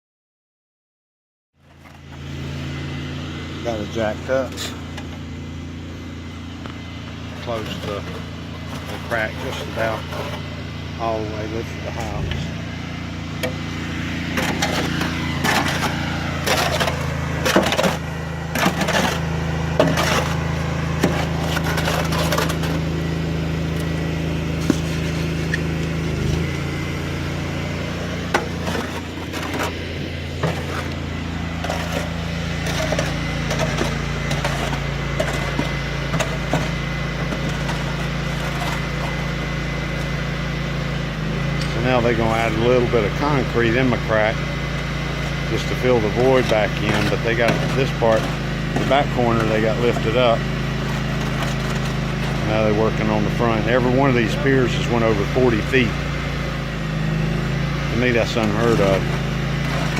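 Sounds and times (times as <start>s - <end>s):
small engine running: 1.6s - 59.9s.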